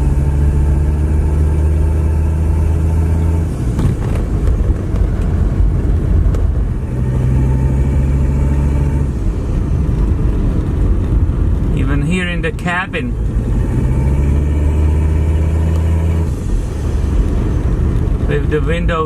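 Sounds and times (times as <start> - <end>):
car diesel engine running: 0.0 - 19.0.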